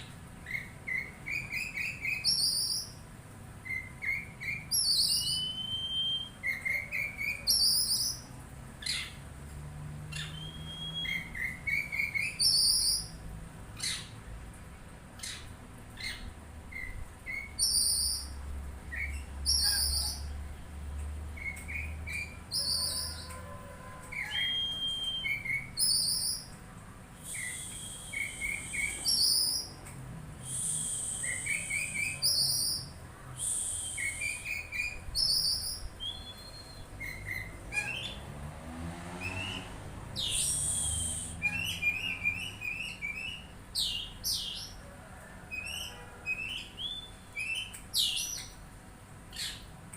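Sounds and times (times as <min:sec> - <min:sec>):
songbird singing: 0:00.0 - 0:14.4, 0:15.1 - 0:44.9, 0:45.5 - 0:49.9.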